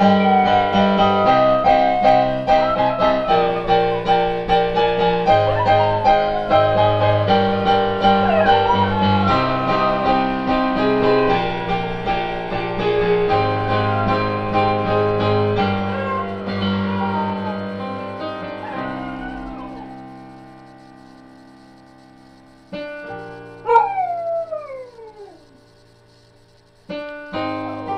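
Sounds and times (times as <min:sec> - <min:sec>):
dog howling: 0:00.0 - 0:20.4, 0:23.6 - 0:25.6
piano playing: 0:00.0 - 0:25.9, 0:26.8 - 0:27.9.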